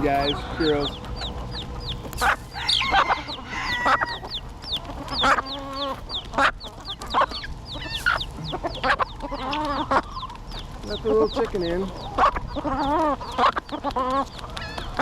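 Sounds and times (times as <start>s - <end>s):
chicks peeping: 0.0s - 15.0s
hens clucking and squawking: 0.0s - 15.0s.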